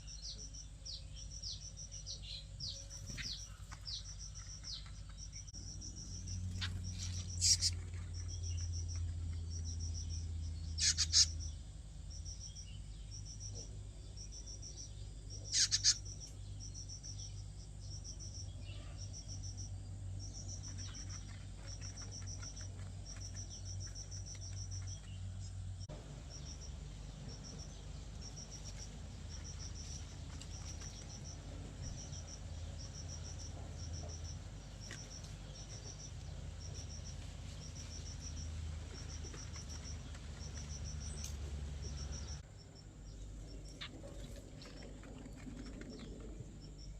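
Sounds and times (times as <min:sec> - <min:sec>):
crickets chirping: 0:00.0 - 0:46.9
steady low hum: 0:00.0 - 0:46.9.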